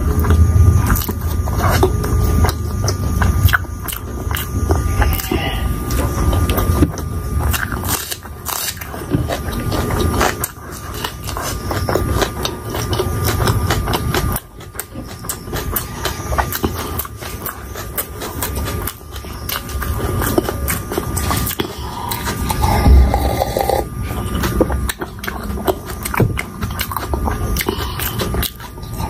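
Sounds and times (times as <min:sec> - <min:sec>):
chewing crunchy fried food: 0:00.0 - 0:29.0.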